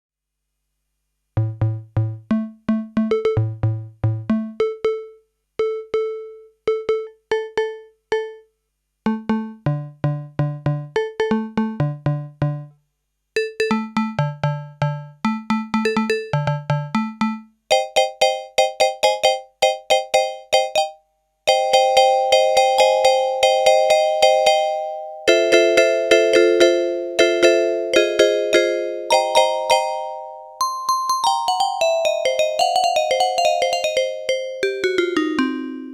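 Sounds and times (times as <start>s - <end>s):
electronic keyboard playing tune: 1.4s - 8.5s, 9.1s - 12.7s, 13.4s - 35.9s.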